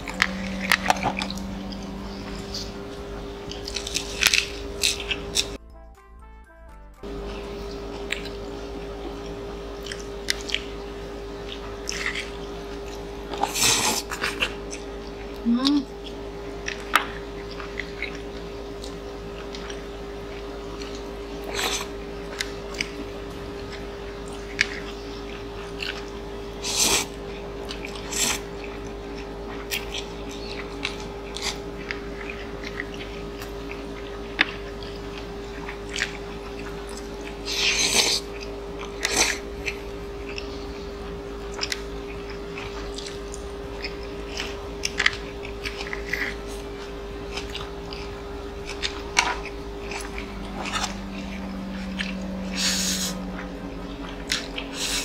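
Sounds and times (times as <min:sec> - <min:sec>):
chewing and biting: 0:00.0 - 0:05.6, 0:07.3 - 0:10.8, 0:11.4 - 0:15.4, 0:16.0 - 0:55.0
faint steady hum: 0:00.0 - 0:55.0.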